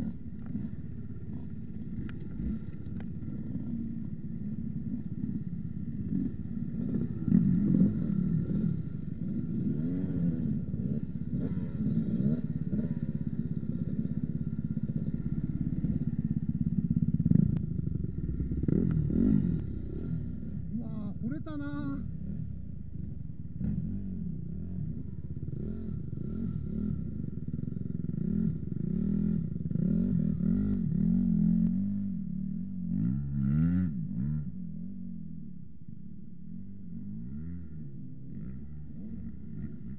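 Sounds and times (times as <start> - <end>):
motorcycle engine revving: 0.0 - 35.5, 36.5 - 39.9.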